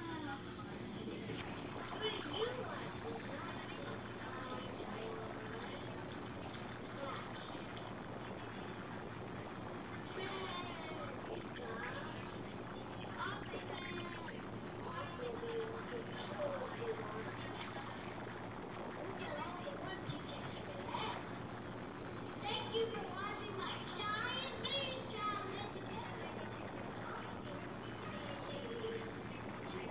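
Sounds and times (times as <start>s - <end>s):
faint voices: 0.0s - 29.9s
high-pitched steady tone: 0.0s - 29.9s.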